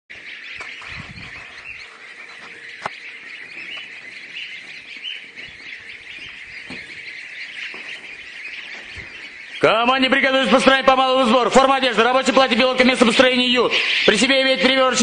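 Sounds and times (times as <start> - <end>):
ducklings peeping: 0.1 - 15.0.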